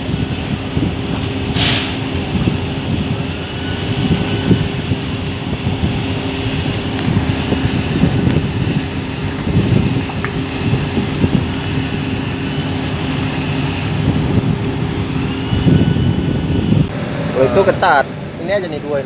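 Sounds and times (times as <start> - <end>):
unloading machinery droning: 0.0 - 18.8.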